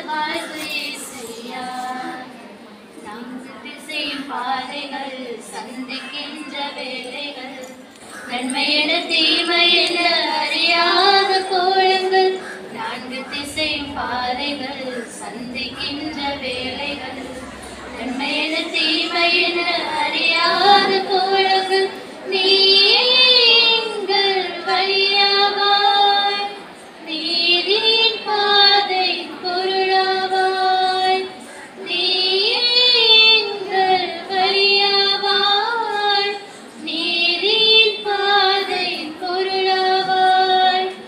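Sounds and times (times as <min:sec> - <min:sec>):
woman singing unaccompanied: 0:00.0 - 0:02.4, 0:03.0 - 0:41.0.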